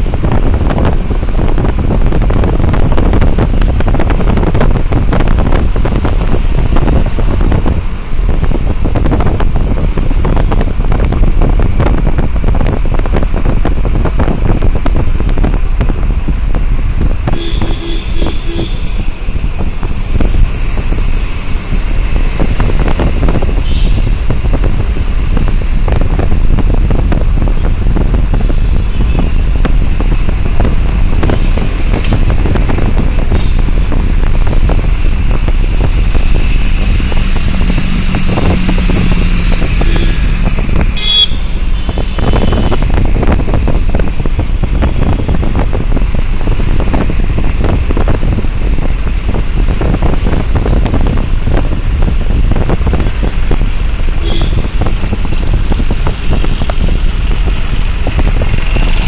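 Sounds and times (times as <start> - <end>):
vehicle low rumble: 0.0 - 59.0.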